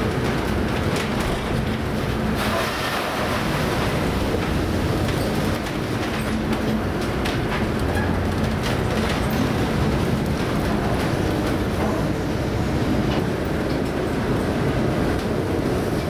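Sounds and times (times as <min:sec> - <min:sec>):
rough sea and wind rumble: 0:00.0 - 0:16.0.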